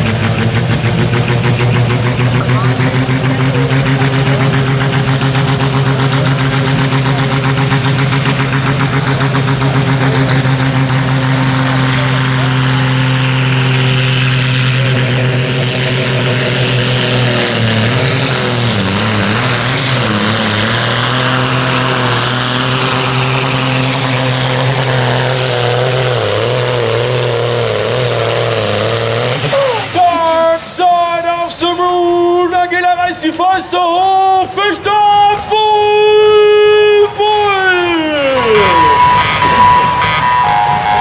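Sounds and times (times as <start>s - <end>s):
tractor diesel engine at full throttle: 0.0s - 41.0s.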